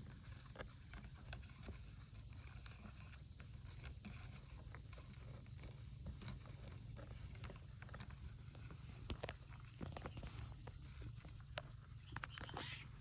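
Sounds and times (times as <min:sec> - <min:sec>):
beetles crawling on plastic: 0:00.0 - 0:13.0
low steady hum: 0:00.0 - 0:13.0.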